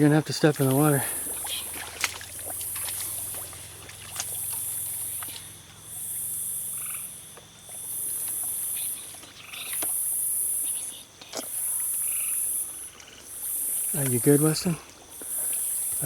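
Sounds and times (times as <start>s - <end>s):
frogs and insects rasping chorus: 0.0s - 16.0s.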